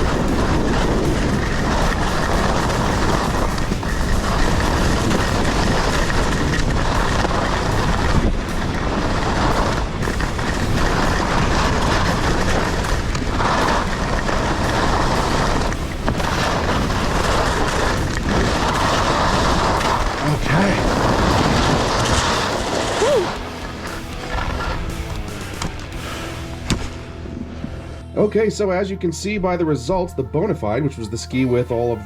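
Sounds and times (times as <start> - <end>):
ski edges scraping on snow: 0.0 - 27.8
wind rushing over microphone: 0.0 - 28.0.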